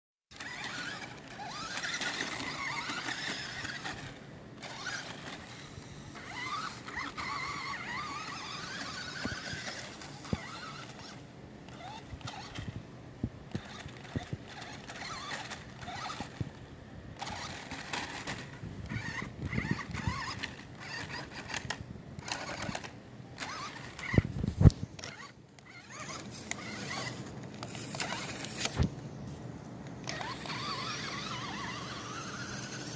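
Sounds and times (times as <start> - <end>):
toy truck motor whining: 0.3 - 12.8, 13.5 - 28.9, 29.9 - 32.9.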